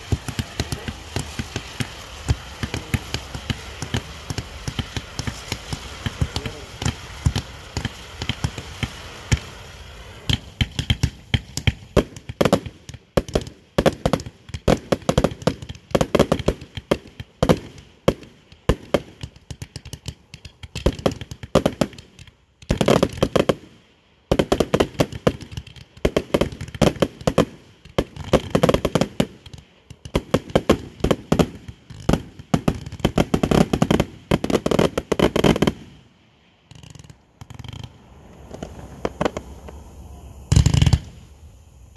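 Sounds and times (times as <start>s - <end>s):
sharp pops and crackles: 0.0s - 9.5s, 10.2s - 39.8s, 40.5s - 41.2s.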